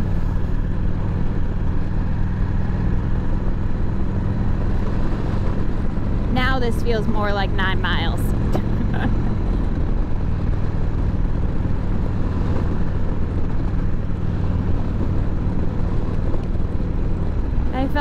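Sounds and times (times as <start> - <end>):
motorcycle engine running: 0.0 - 18.0
road noise: 0.0 - 18.0
wind noise: 0.0 - 18.0.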